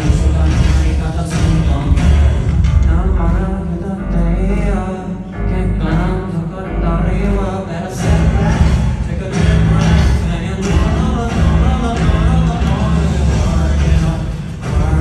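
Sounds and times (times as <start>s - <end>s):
heavy bass: 0.0s - 15.0s
man singing with vibrato: 0.0s - 15.0s.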